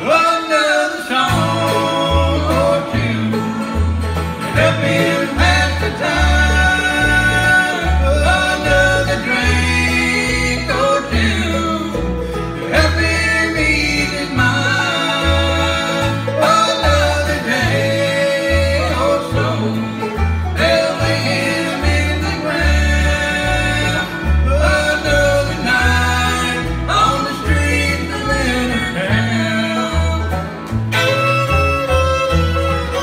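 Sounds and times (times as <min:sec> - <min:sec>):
banjo: 0:00.0 - 0:33.0
bass line: 0:00.0 - 0:33.0
picked acoustic guitar: 0:00.0 - 0:33.0.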